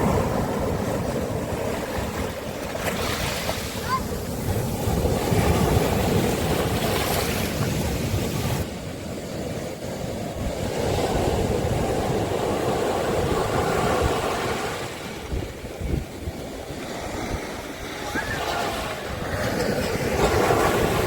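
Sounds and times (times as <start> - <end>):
sea waves breaking on beach: 0.0 - 21.0.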